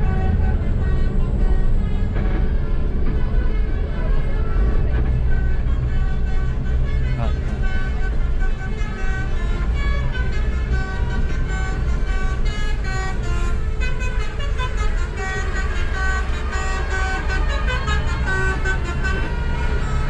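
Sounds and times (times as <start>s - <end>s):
multi-tone bus horn melody: 0.0s - 20.0s
steady low rumble: 0.0s - 20.0s.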